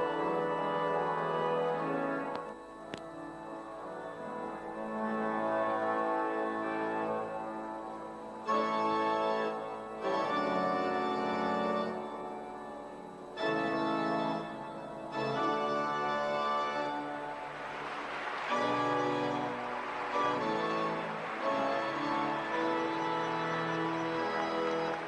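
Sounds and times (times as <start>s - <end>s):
pipe organ playing chords: 0.0s - 25.0s.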